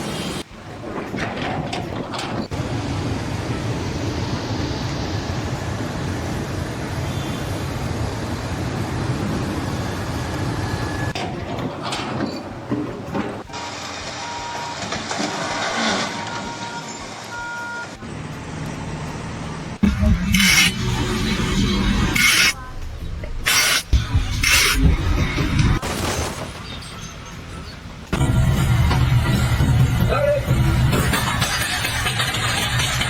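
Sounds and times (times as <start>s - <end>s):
heavy machinery running: 2.5s - 12.1s, 13.0s - 33.0s.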